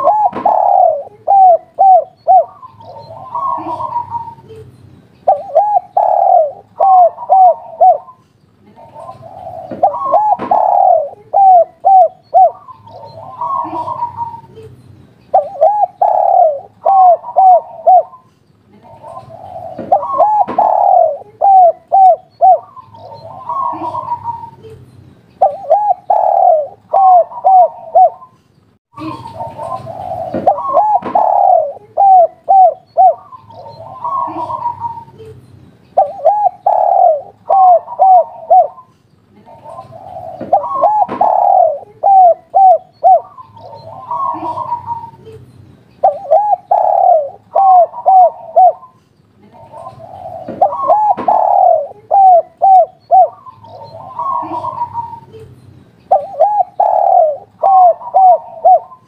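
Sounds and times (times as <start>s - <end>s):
dove cooing: 0.0s - 24.8s, 25.4s - 28.4s, 29.0s - 35.4s, 36.0s - 45.4s, 46.0s - 55.5s, 56.1s - 59.0s.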